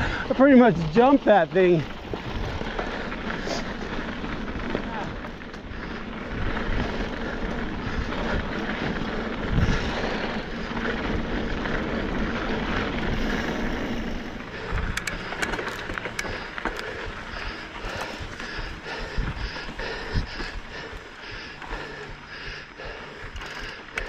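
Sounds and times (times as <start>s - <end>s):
bike clicks and rattles: 0.0s - 24.0s
bike tyres rumbling on dirt: 0.0s - 24.0s.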